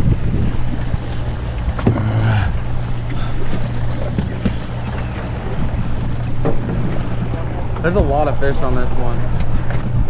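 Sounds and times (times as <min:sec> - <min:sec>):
boat engine humming: 0:00.0 - 0:10.0
water noise: 0:00.0 - 0:10.0
wind: 0:00.0 - 0:10.0.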